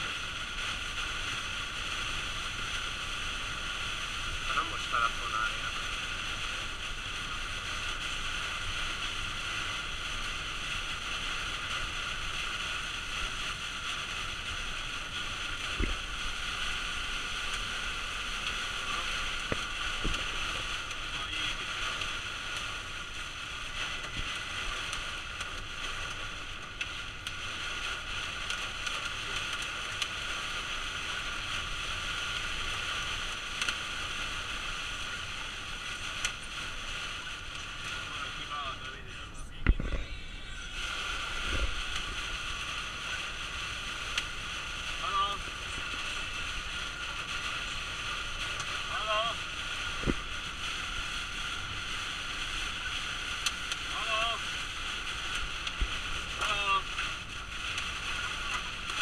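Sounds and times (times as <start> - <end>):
tyre spray on wet road: 0.0 - 39.4, 40.3 - 59.0
heavy rain on windscreen and roof: 0.0 - 59.0.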